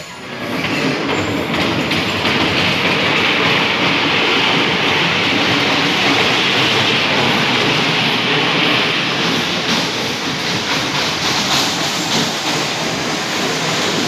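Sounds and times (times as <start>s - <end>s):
bumper car rolling on metal floor: 0.3s - 14.0s.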